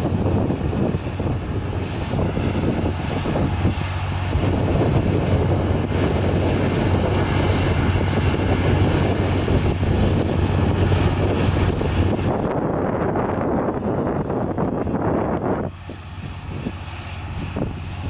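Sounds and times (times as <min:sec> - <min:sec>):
steady low hum: 0:00.0 - 0:18.0
wind noise on microphone: 0:00.0 - 0:18.0.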